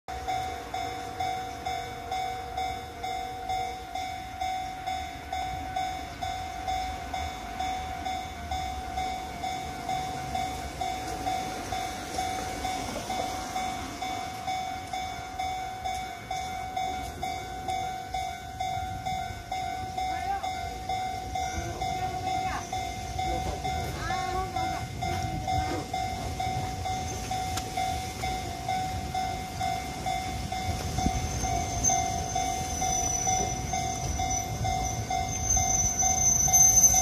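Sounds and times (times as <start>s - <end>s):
level crossing alarm ringing: 0.1s - 37.0s.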